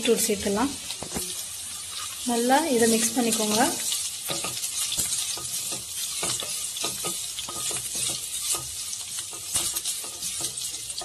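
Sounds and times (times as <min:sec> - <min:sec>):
vegetables sizzling in oil: 0:00.0 - 0:11.0
wooden spatula scraping a pan: 0:00.9 - 0:11.0.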